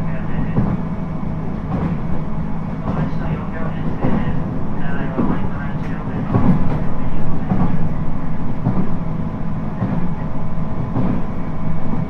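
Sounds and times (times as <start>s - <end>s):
train interior rumble: 0.0s - 12.0s
train wheel knocks: 0.4s - 0.9s, 1.5s - 12.0s.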